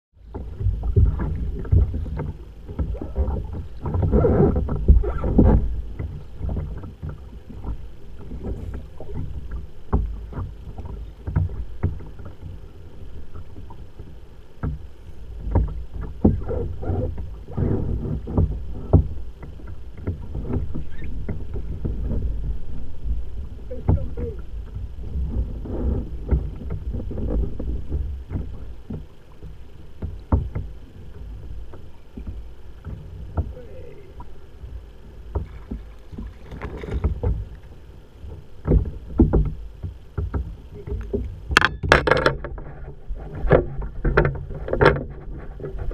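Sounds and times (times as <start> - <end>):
water lapping against kayak hull: 0.1 - 45.9.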